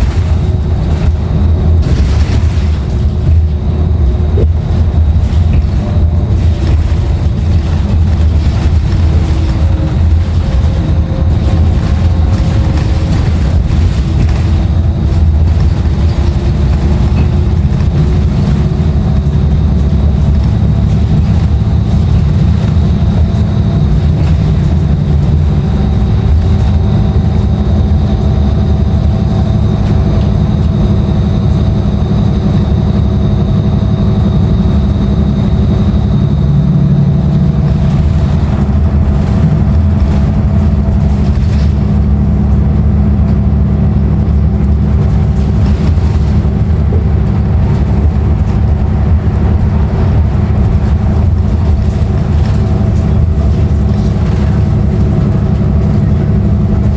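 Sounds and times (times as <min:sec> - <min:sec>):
bus diesel engine running: 0:00.0 - 0:56.9
road rumble: 0:00.0 - 0:56.9.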